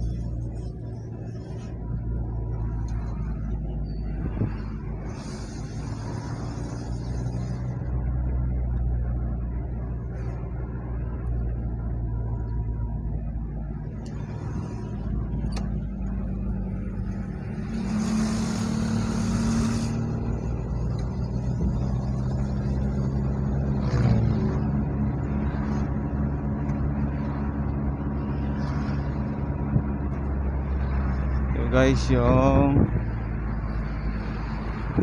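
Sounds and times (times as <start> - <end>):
car engine and road noise: 0.0 - 35.0.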